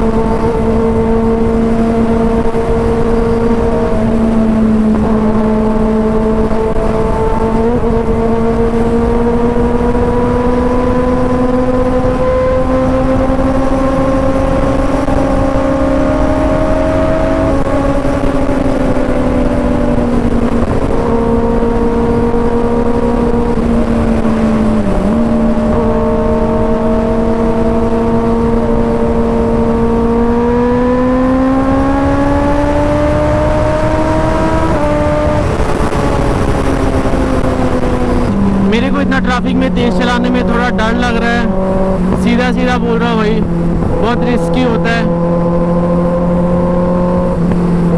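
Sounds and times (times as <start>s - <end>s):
motorcycle engine cruising: 0.0s - 47.9s.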